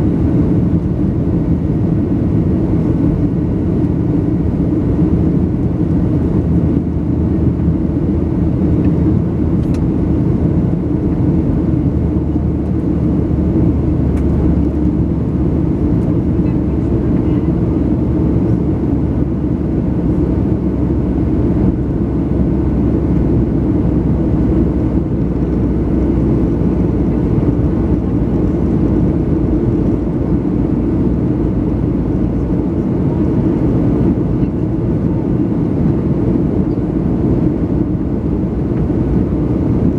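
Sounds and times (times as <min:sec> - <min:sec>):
jet cabin low roar: 0:00.0 - 0:39.9.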